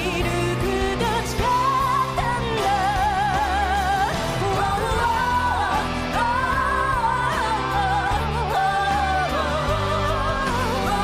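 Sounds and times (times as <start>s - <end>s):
piano and band accompaniment: 0.0s - 11.0s
woman singing with vibrato: 0.0s - 11.0s.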